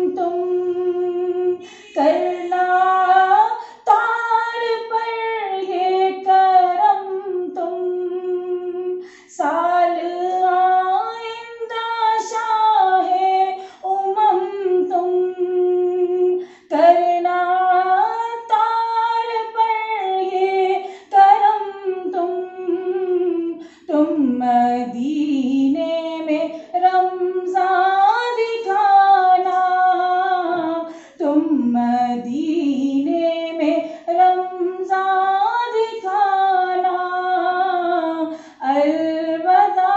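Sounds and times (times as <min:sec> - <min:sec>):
woman singing unaccompanied: 0:00.0 - 0:39.9.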